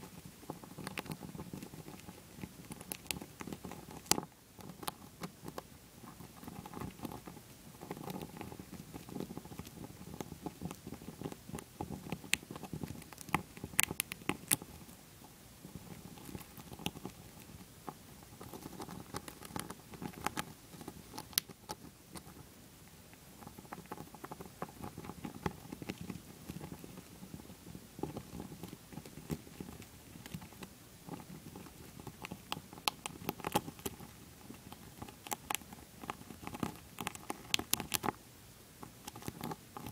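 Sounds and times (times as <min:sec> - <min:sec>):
hamster gnawing peanut: 0:00.0 - 0:39.9.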